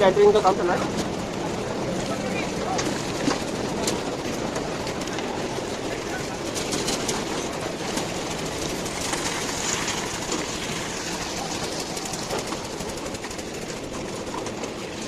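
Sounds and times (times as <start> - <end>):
concrete mixer rattling: 0.0 - 15.0.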